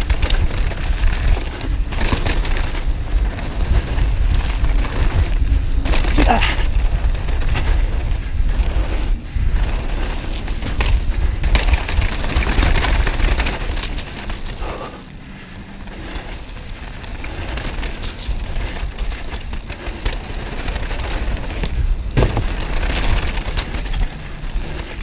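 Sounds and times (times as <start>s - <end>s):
bike rattling and knocking: 0.0s - 25.0s
bike tyres rumbling on dirt: 0.0s - 25.0s.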